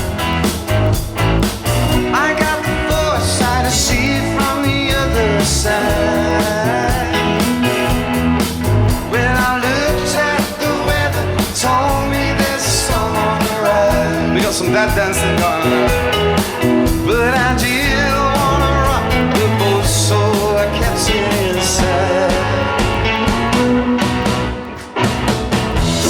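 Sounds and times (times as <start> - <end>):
rock band playing: 0.0 - 26.0
steady drum beat: 0.0 - 26.0.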